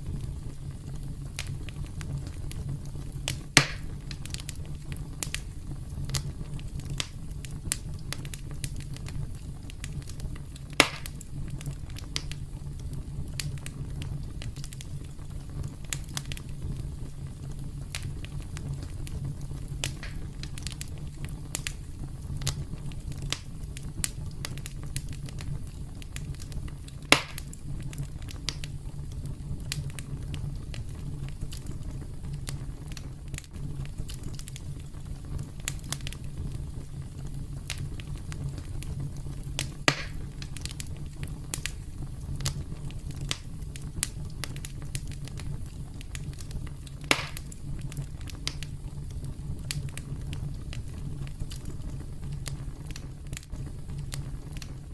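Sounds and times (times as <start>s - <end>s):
campfire crackling: 0.0s - 54.9s
loud fire pops: 0.0s - 54.9s.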